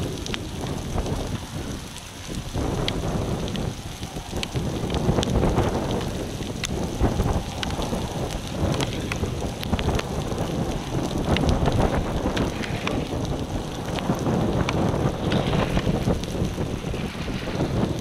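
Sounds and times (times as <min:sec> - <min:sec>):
gusty wind on microphone: 0:00.0 - 0:18.0
raindrops ticking: 0:00.0 - 0:18.0.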